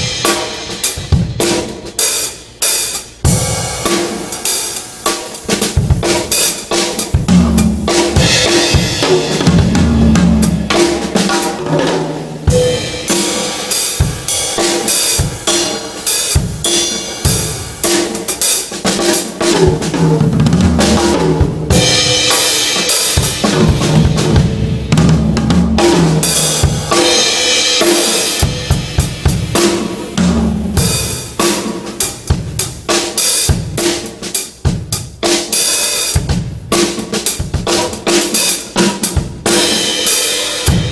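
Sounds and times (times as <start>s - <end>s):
drum kit playing: 0.0s - 40.9s.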